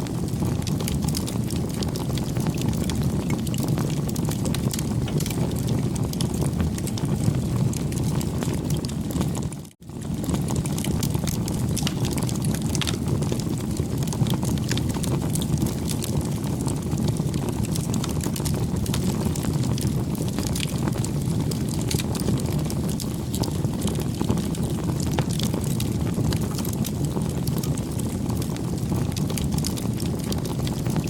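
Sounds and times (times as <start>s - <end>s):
crackles and pops of burning wood: 0.0s - 31.0s
low rush of flame: 0.0s - 31.0s.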